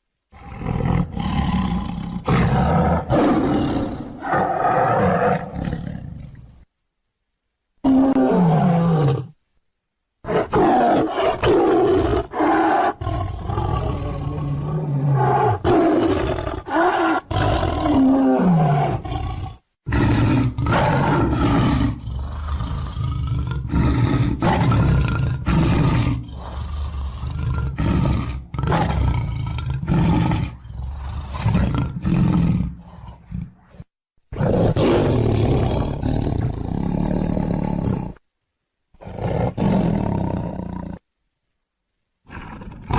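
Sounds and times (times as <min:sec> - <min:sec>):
tiger roaring: 0:00.3 - 0:06.4, 0:07.8 - 0:09.4, 0:10.2 - 0:38.2, 0:39.0 - 0:41.0, 0:42.3 - 0:42.9.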